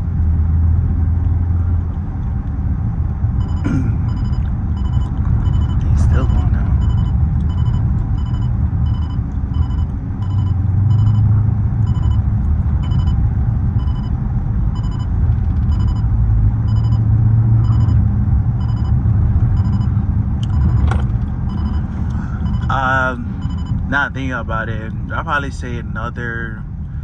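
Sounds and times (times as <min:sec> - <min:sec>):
car engine and exhaust drone: 0:00.0 - 0:27.0
road rumble: 0:00.0 - 0:27.0.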